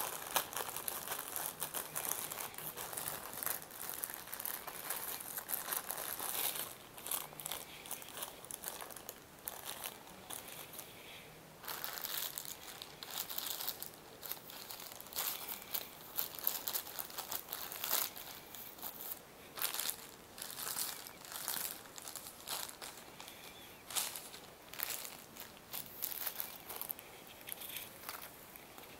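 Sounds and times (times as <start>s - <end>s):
plastic bag crinkling: 0.0s - 28.9s.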